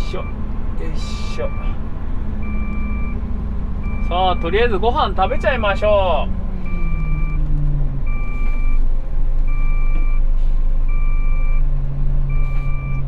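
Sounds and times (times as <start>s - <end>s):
diesel engine rumble: 0.0s - 13.0s
truck reversing alarm beeping: 0.0s - 13.0s.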